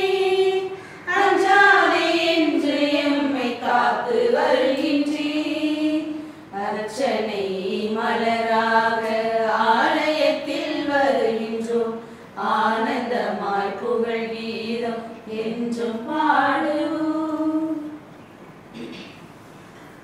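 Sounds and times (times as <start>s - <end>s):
voices singing a hymn: 0.0s - 18.0s.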